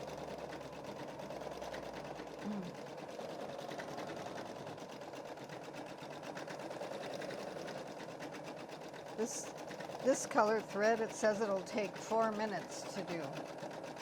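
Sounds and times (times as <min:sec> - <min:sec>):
embroidery machine stitching: 0:00.0 - 0:14.0.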